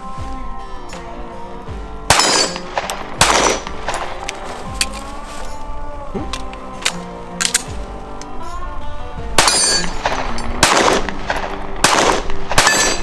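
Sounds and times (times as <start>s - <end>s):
background music: 0.0s - 13.0s
pistol shots with echo: 0.4s - 5.4s, 6.2s - 13.0s.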